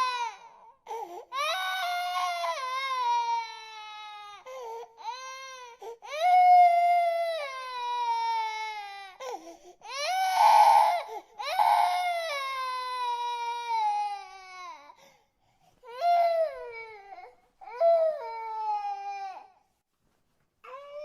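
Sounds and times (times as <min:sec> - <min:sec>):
infant crying: 0:00.0 - 0:15.0, 0:15.8 - 0:19.6, 0:20.6 - 0:21.0.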